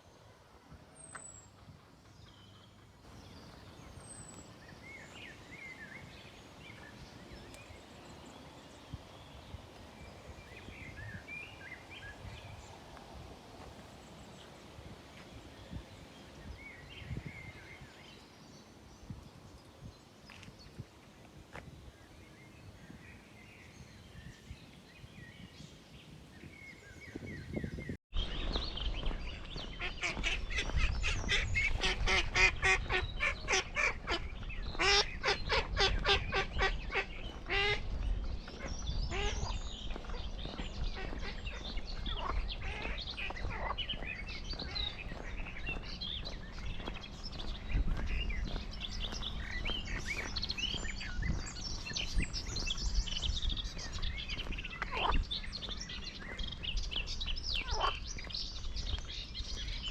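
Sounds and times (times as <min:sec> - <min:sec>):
small birds chirping: 0:01.0 - 0:59.9.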